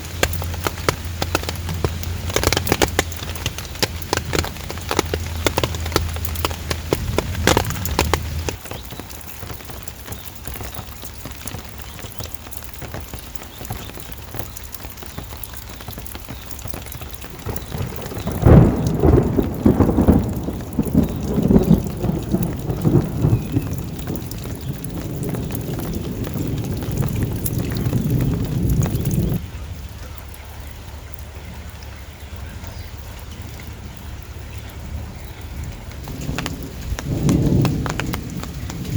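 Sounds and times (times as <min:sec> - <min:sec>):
steady rain falling: 0:00.0 - 0:38.9
thunder rumbling: 0:00.0 - 0:38.9.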